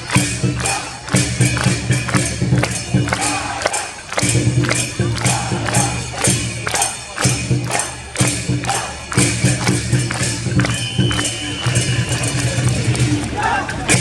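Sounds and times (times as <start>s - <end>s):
clanging metal percussion: 0.0s - 14.0s
drums: 0.0s - 14.0s.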